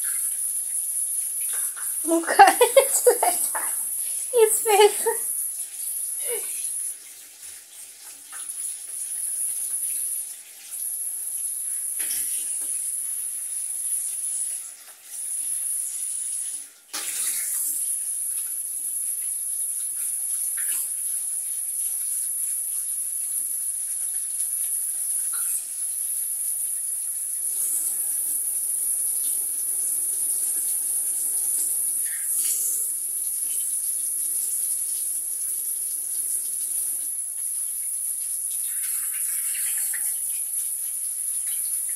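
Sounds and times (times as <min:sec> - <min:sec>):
water running from hand shower: 0:00.0 - 0:41.9.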